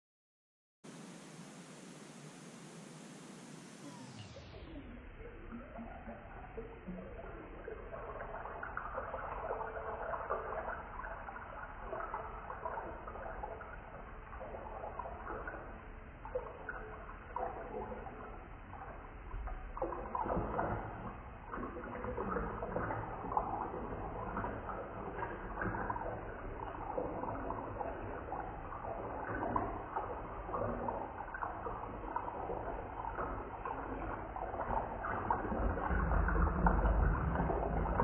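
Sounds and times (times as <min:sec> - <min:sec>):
water pouring into a glass bowl: 0:03.8 - 0:38.0.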